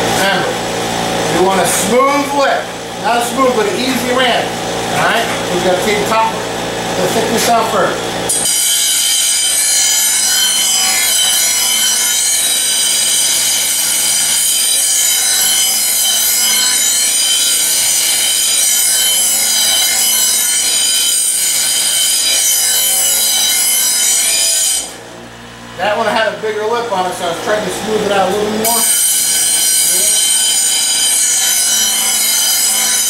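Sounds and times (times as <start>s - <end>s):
grinder motor hum: 0.0s - 33.0s
harsh metal grinding: 0.0s - 33.0s.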